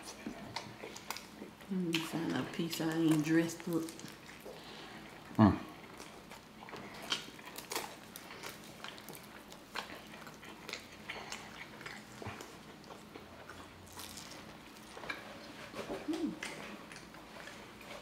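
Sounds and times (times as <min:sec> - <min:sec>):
person chewing pizza: 0:00.0 - 0:18.0.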